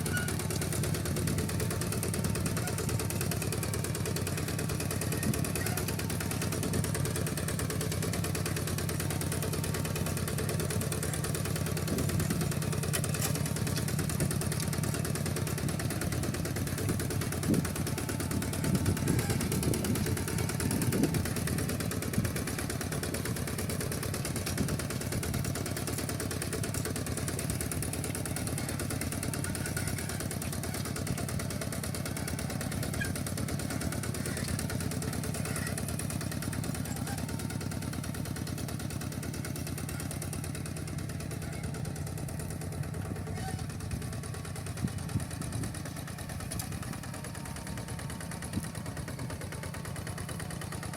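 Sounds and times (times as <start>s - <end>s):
walking tractor engine running: 0.0s - 50.9s.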